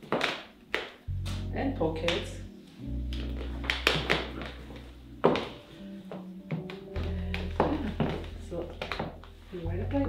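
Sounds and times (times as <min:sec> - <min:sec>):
background music with held bass: 0:00.0 - 0:10.0.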